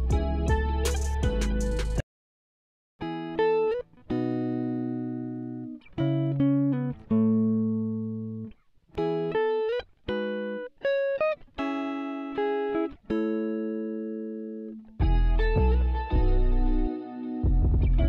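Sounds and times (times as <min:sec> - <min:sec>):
slow plucked guitar: 0:00.0 - 0:02.0, 0:03.0 - 0:18.0.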